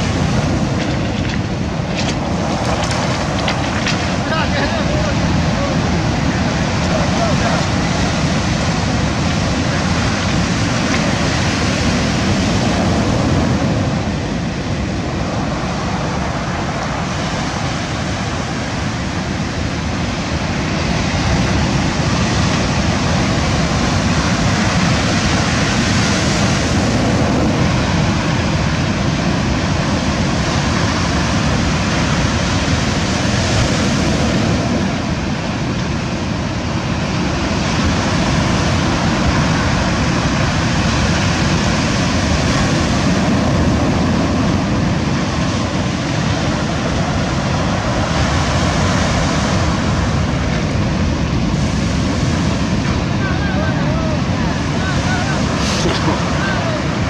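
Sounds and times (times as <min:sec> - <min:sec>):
surf breaking on stony beach: 0:00.0 - 0:57.0.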